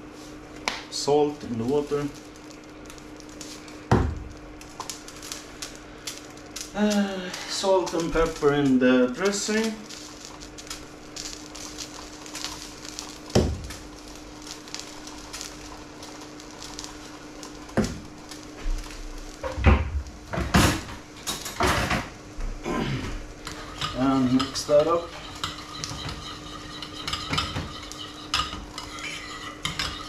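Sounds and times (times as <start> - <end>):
steady low hum: 0.0 - 30.0
scraping and rustling: 1.5 - 19.5, 23.5 - 30.0.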